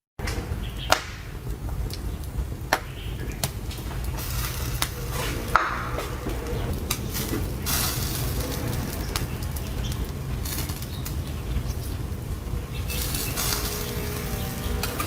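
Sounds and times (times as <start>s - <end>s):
faint sizzle: 0.4s - 15.0s.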